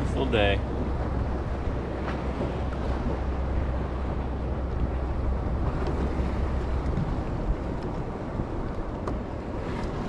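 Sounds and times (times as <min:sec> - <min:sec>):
sea water washing around kayak: 0:00.0 - 0:10.0
wind buffeting microphone: 0:00.0 - 0:10.0.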